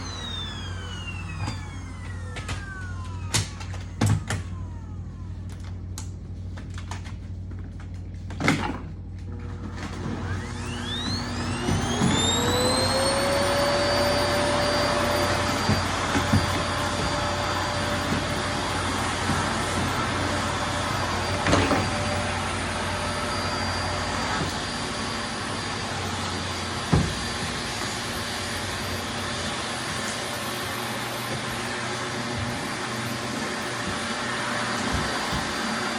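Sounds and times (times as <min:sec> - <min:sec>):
vacuum cleaner motor whine: 0:00.0 - 0:35.9.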